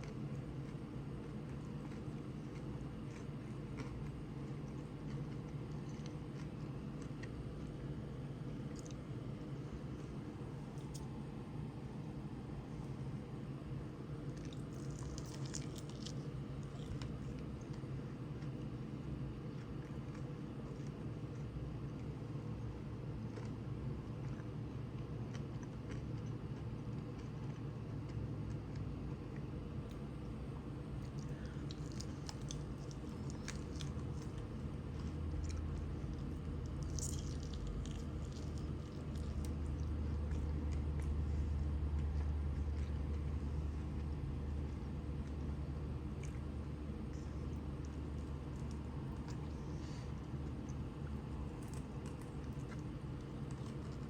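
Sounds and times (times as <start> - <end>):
faint chewing: 0.0 - 54.0
low steady rumble: 0.0 - 54.0
steady low hum: 0.0 - 54.0.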